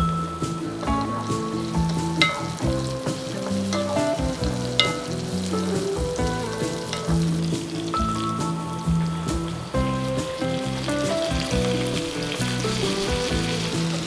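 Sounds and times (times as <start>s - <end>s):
background music: 0.0s - 14.0s
food sizzling in a pan: 0.4s - 14.0s.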